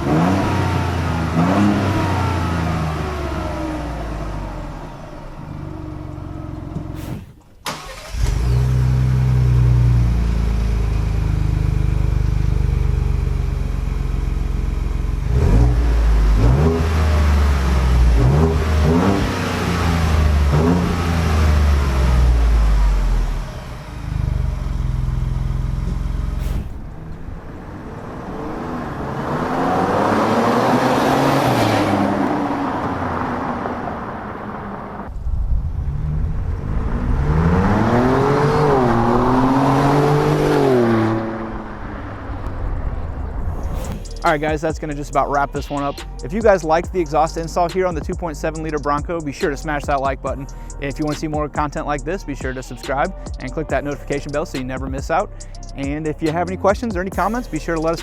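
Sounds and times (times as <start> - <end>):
engine revving through exhaust: 0.0 - 27.3, 28.0 - 33.9, 35.8 - 58.0.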